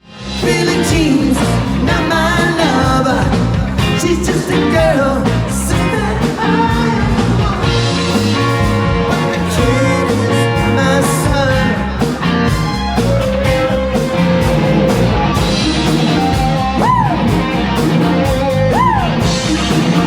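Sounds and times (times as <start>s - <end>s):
rock music with singing and guitar: 0.0s - 20.0s.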